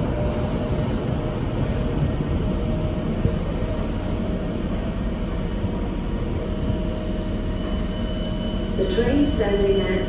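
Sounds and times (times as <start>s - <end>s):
train equipment humming: 0.0s - 10.0s.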